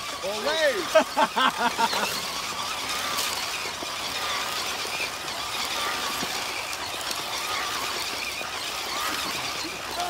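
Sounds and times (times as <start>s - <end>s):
toy car motor whining: 0.0s - 10.0s.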